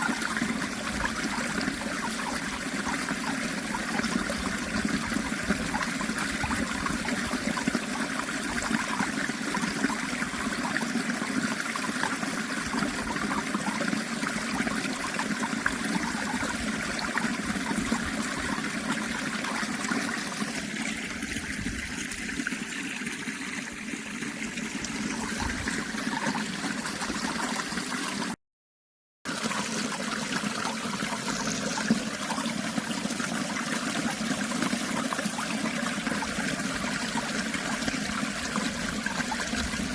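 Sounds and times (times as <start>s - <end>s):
stream water trickling: 0.0s - 28.4s, 29.3s - 39.9s.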